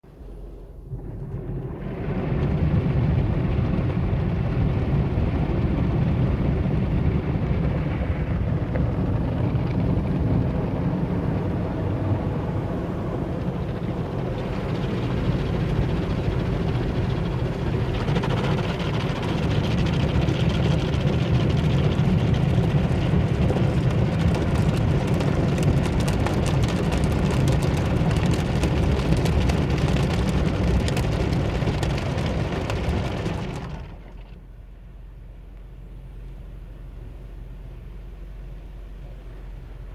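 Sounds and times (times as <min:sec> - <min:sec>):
car wash machinery rushing: 0:01.0 - 0:34.5.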